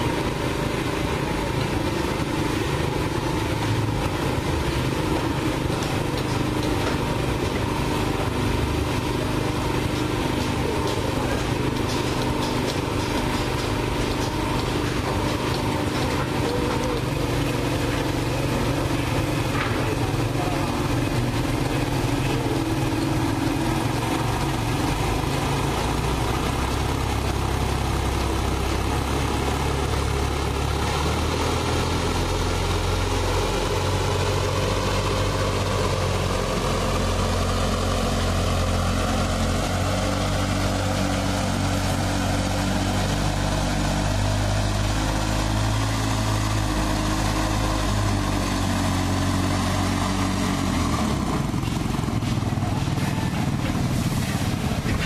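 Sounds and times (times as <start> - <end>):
petrol engine of hoist running: 0.0 - 55.0.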